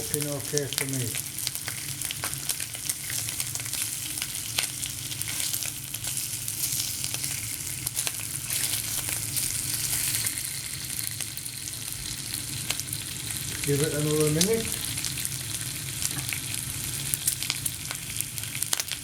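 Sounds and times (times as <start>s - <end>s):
bacon sizzling in a pan: 0.0s - 19.0s.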